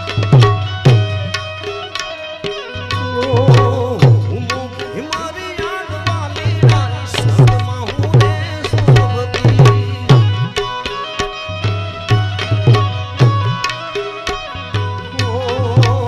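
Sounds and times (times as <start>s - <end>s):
tabla beat: 0.0s - 16.0s.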